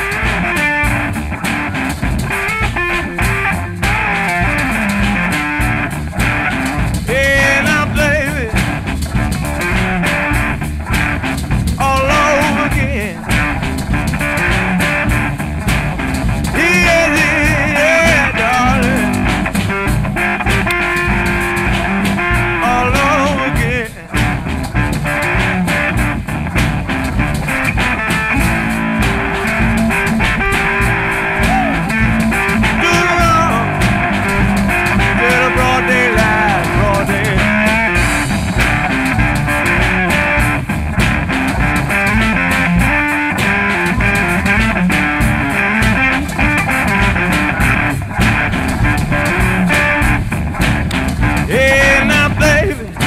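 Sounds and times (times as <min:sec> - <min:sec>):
blues-rock music with guitar: 0:00.0 - 0:53.0.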